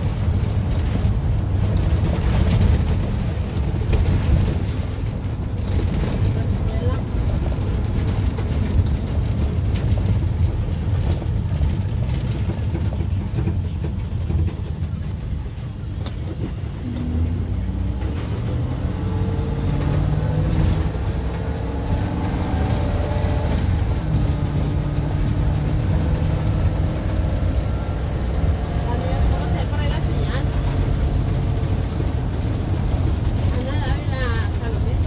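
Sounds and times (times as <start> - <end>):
van engine and road rumble: 0.0 - 35.0.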